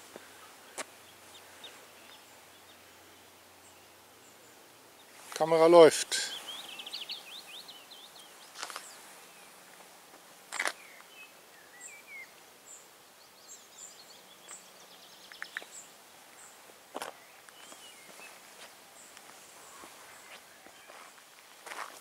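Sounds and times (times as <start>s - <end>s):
songbirds singing faintly: 0.0s - 22.0s.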